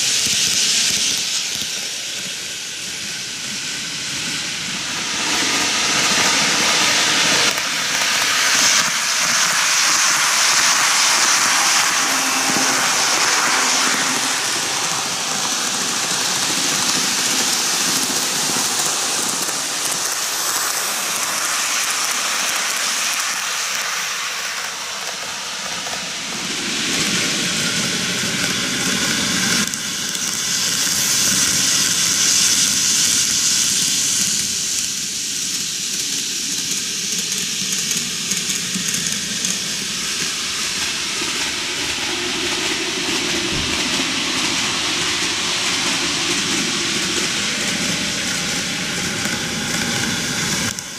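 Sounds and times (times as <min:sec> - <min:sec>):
model train wheels rumbling on rails: 0:00.0 - 0:50.9.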